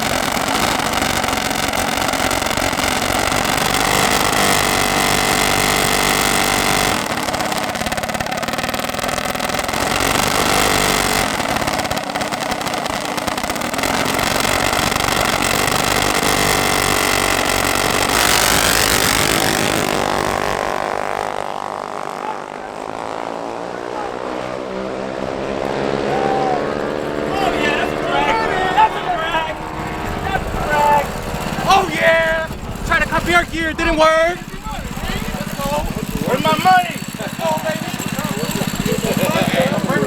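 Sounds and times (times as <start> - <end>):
mini bike engine revving: 0.0 - 40.0.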